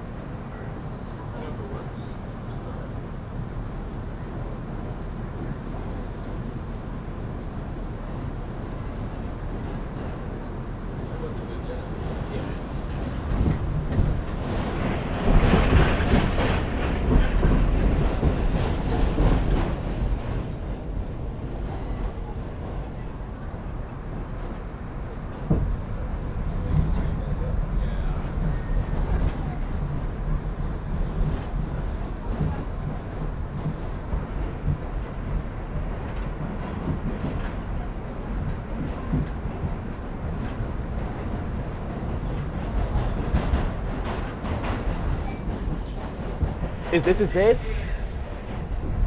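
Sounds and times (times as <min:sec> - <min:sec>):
subway train rumbling: 0:00.0 - 0:49.0.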